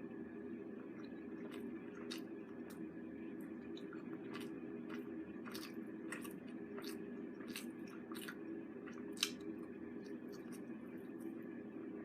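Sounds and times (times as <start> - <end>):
steady low hum: 0.0 - 12.0
chewing crunchy food: 0.7 - 11.9.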